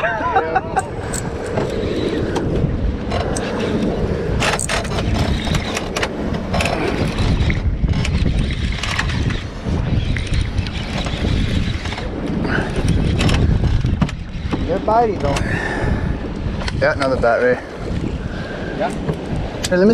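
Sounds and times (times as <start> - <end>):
fishing boat engine rumble: 0.0 - 19.9
wind on microphone: 0.0 - 19.9.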